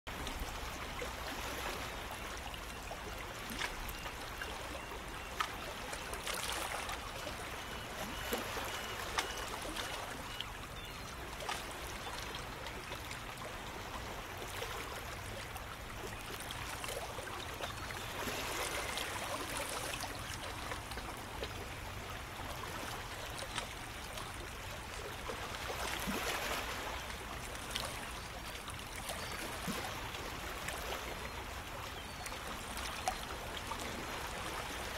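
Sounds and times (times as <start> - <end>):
shallow water lapping: 0.1 - 34.9
small water splashes: 0.1 - 34.9.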